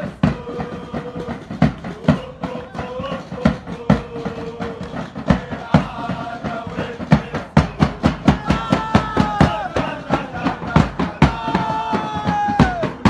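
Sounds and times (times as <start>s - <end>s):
bass drum beat: 0.0s - 13.0s
men singing in unison: 0.0s - 13.0s.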